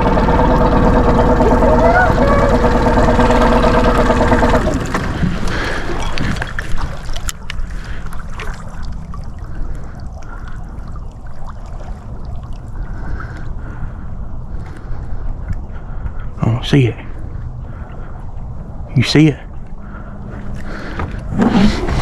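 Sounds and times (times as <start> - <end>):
boat motor running: 0.0 - 8.0, 9.3 - 22.0
water lapping against hull: 0.0 - 22.0.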